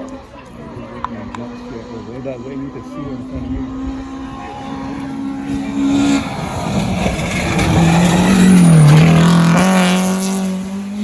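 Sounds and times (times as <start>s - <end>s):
rally car passing at speed: 0.6s - 11.0s.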